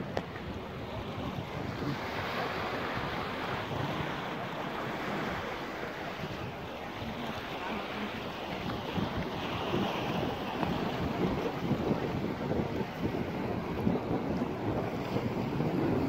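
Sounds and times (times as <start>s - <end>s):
water washing against rocky shore: 0.0s - 16.0s
wind buffeting microphone: 0.0s - 16.0s.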